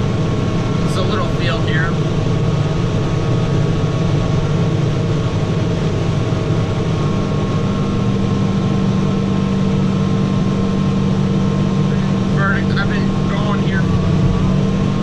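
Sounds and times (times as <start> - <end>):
faint steady whine: 0.0 - 15.0
tractor engine droning: 0.0 - 15.0.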